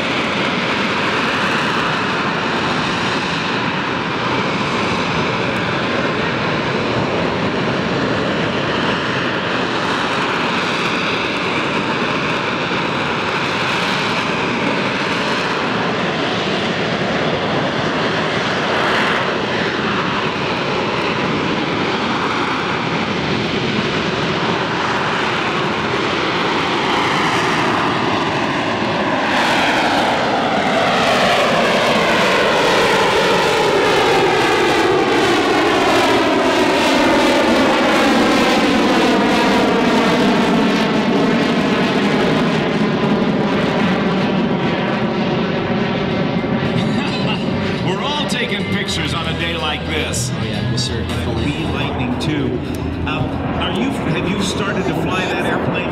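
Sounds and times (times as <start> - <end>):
jet engine roaring: 0.0 - 55.9.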